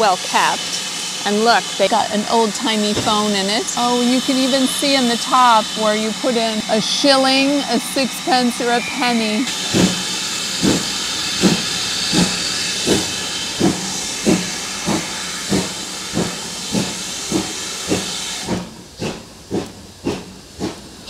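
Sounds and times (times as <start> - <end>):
steam hissing: 0.0 - 21.0
steam locomotive exhaust chuffs: 0.0 - 21.0.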